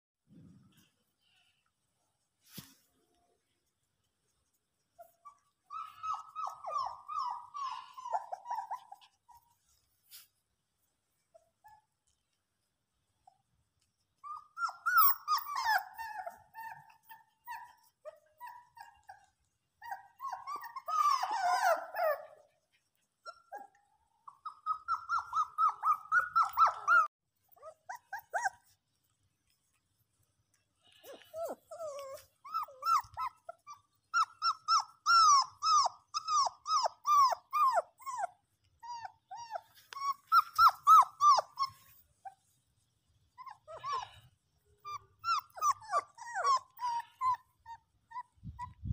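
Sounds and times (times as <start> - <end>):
puppies whining and yelping: 4.9 - 10.3, 11.2 - 12.3, 13.2 - 28.9, 30.8 - 48.9.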